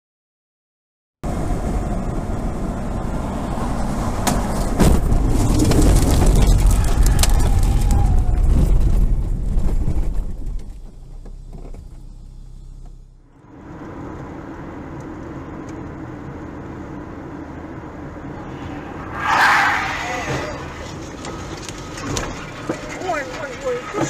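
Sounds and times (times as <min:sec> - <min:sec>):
car road noise: 0:01.2 - 0:24.0.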